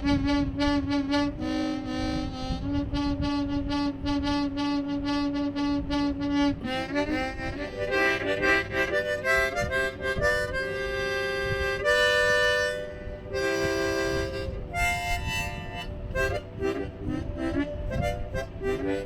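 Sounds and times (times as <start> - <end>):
harmonica playing a tune: 0.0 - 19.0.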